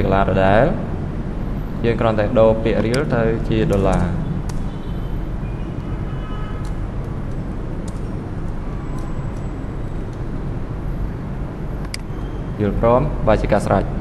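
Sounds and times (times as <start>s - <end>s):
low rumble and hiss: 0.0s - 4.6s, 6.7s - 14.0s.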